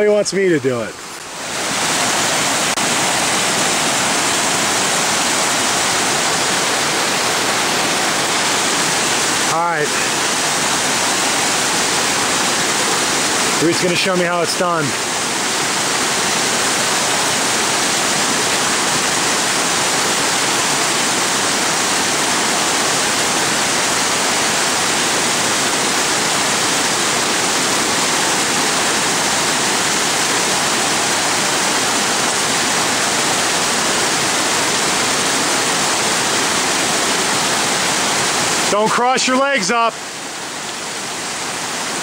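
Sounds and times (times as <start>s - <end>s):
creek rushing over rocks: 0.0s - 42.0s.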